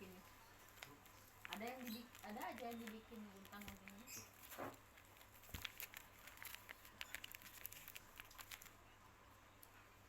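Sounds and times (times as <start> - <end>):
paper and tape crinkling: 0.6 - 8.8.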